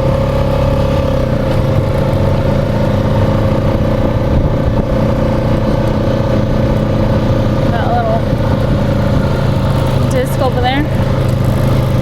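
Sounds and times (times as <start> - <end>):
farm vehicle engine rumbling: 0.0 - 12.0.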